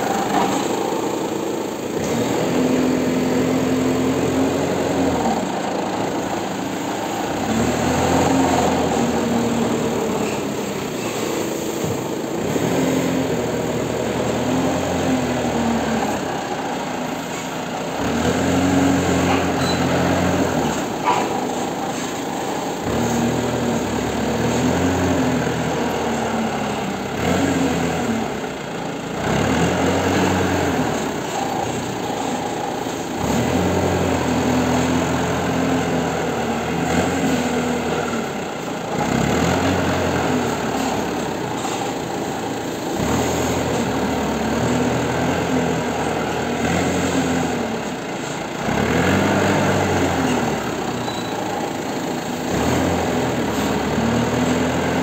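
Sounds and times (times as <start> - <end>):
forklift engine revving: 0.0 - 55.0.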